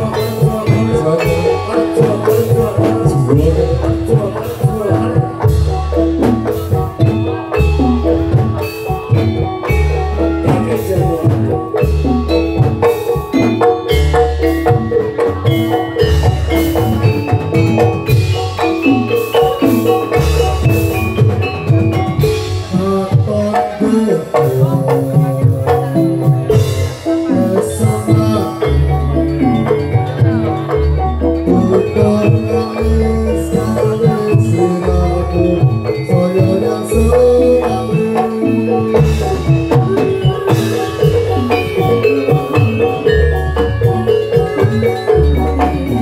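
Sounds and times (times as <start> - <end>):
metallophones ringing fast melody: 0.0 - 46.0
steady drum: 0.0 - 46.0.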